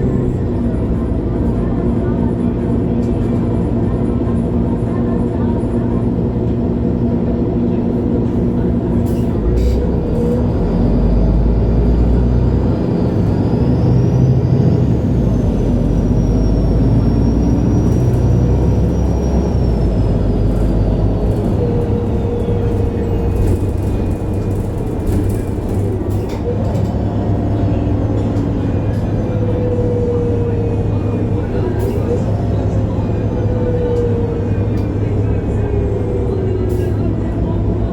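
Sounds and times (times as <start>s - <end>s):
bus diesel engine droning: 0.0s - 37.9s.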